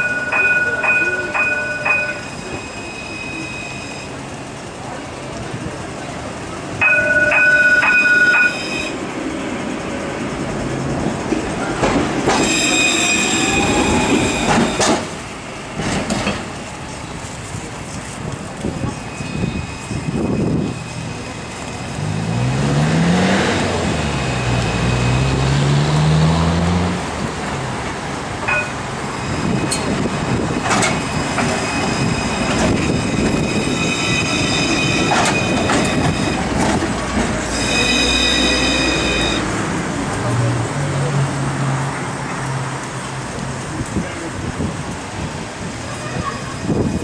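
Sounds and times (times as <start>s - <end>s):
wheels squealing on rails: 0.0s - 26.9s, 28.2s - 40.4s, 43.9s - 47.0s
tram motor whine: 0.0s - 42.3s
low tram hum: 0.0s - 47.0s.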